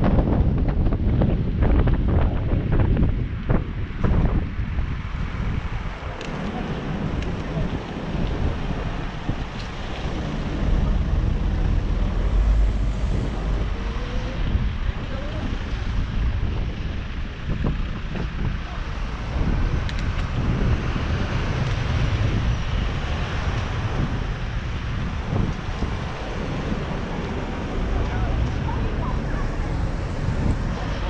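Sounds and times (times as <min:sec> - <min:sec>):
road noise: 0:00.0 - 0:31.0
wind buffeting microphone: 0:00.0 - 0:31.0.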